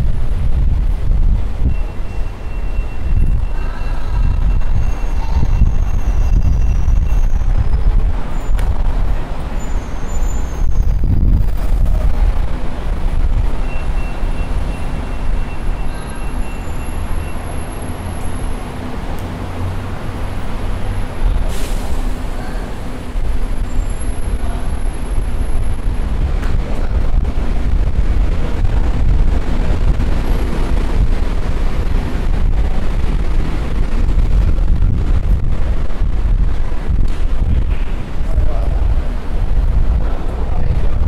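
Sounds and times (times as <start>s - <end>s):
rumble of passing vehicles: 0.0s - 41.0s.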